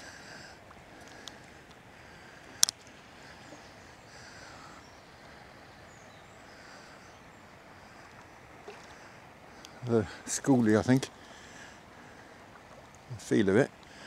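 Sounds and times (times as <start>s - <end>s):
faint birdsong: 0.0s - 14.0s
low outdoor hush: 0.0s - 14.0s.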